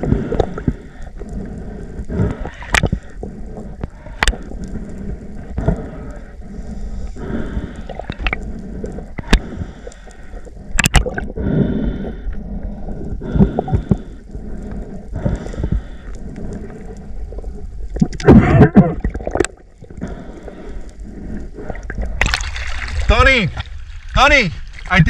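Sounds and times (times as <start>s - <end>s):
underwater gurgling and rushing: 0.0s - 25.0s.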